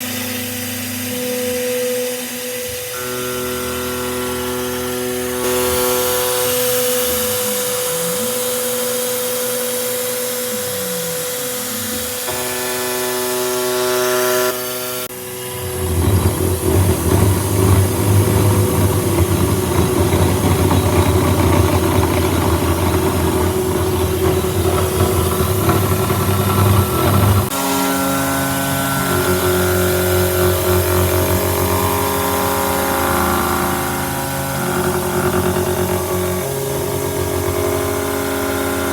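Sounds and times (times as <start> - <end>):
boring mill motor whine: 0.0 - 38.9
cutter grinding metal: 0.0 - 38.9.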